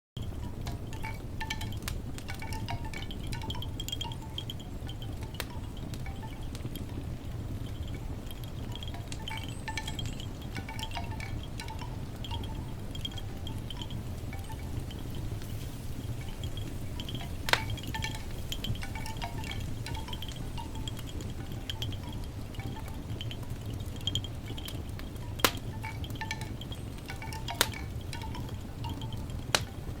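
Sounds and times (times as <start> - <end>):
fire pit pops: 0.2 - 15.6, 16.2 - 30.0
low background rumble: 0.2 - 30.0
wind chimes tinkling: 0.2 - 30.0.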